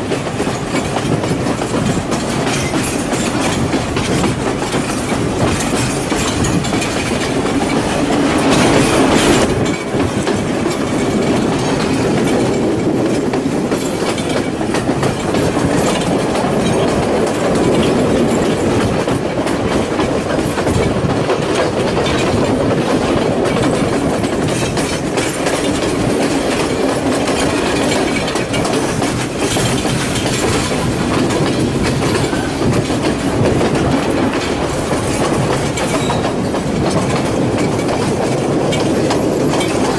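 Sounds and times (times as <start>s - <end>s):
train carriage rumble: 0.0s - 39.9s
wheels clattering over rail joints: 0.0s - 39.9s.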